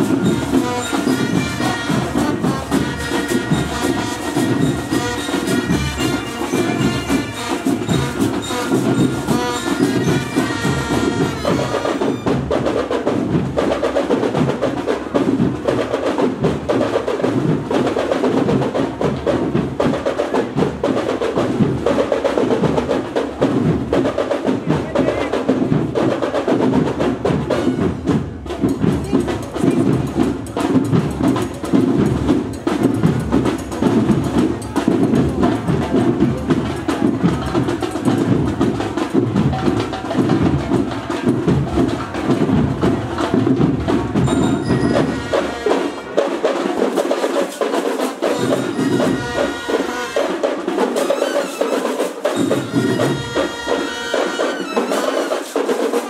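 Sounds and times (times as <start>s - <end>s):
marching band drums: 0.0s - 56.0s
marching band melody: 0.0s - 56.0s.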